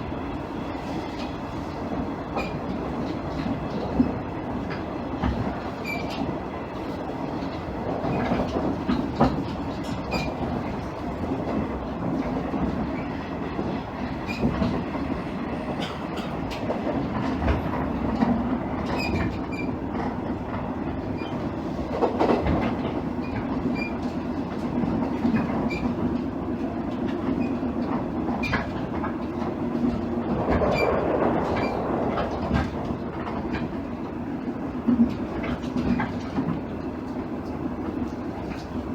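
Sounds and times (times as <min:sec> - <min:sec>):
diesel railcar engine drone: 0:00.0 - 0:38.9.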